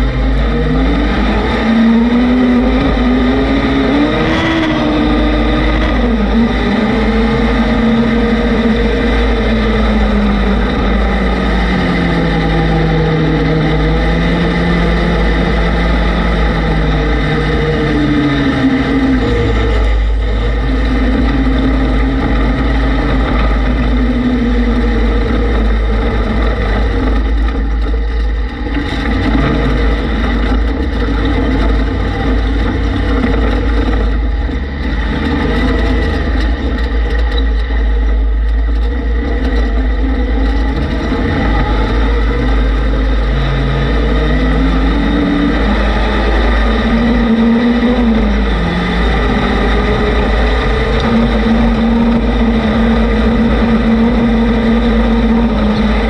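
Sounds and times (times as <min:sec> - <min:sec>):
off-road vehicle engine: 0:00.0 - 0:56.0
wind rumble on microphone: 0:00.0 - 0:56.0.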